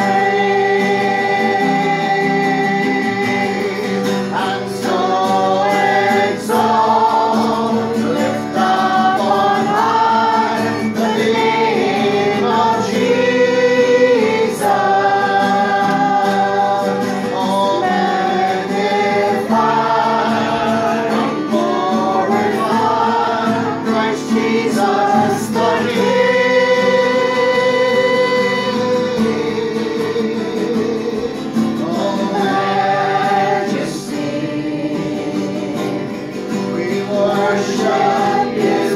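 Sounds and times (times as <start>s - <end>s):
acoustic guitar: 0.0s - 38.9s
group of people singing: 0.0s - 38.9s.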